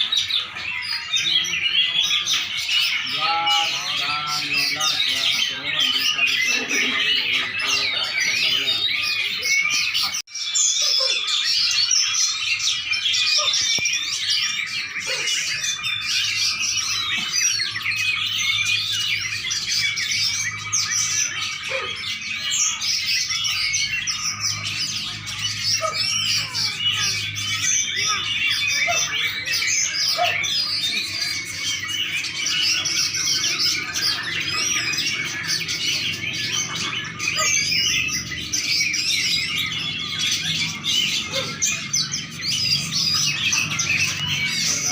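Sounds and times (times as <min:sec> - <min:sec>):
songbird chirping and trilling: 0:00.0 - 0:44.9.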